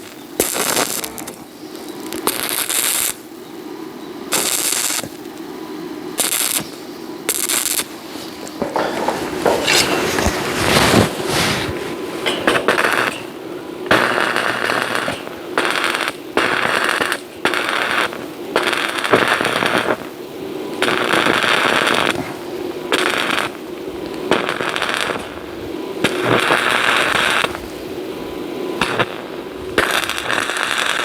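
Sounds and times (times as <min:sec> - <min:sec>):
arc welding crackling: 0:00.0 - 0:31.0.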